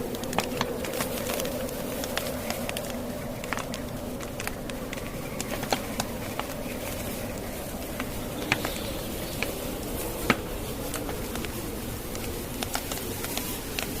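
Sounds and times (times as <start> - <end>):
blizzard wind hiss: 0.0 - 14.0
wood fire crackling and popping: 0.0 - 14.0.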